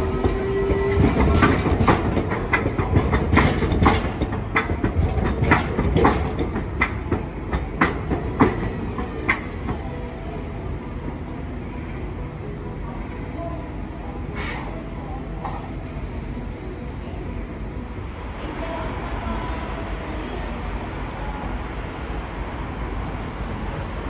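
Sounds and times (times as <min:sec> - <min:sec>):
low tram rumble: 0:00.0 - 0:24.0
tram wheels clacking over rails: 0:00.0 - 0:24.0.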